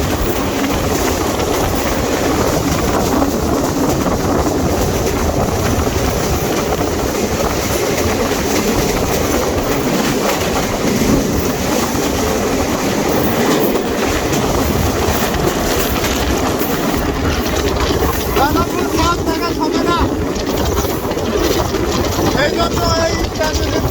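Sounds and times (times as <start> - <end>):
clickety-clack of rails: 0.0 - 23.9
train wheels rumbling on rails: 0.0 - 23.9.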